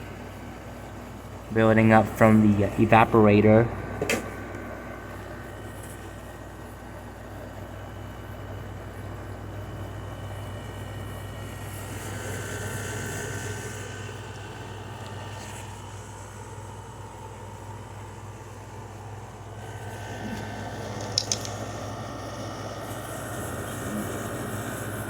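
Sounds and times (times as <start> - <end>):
air conditioner running: 0.0 - 25.0.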